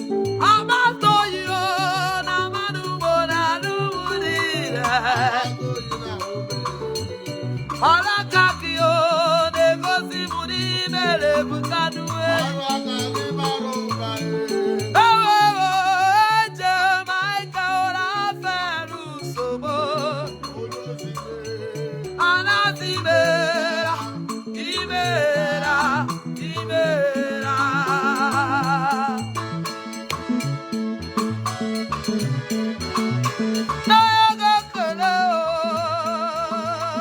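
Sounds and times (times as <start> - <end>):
bouncing bass line: 0.0 - 16.8, 19.4 - 37.0
lead melody with vibrato: 0.0 - 37.0.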